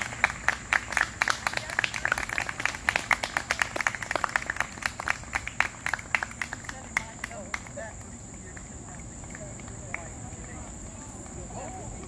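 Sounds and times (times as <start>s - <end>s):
people clapping: 0.0s - 12.0s.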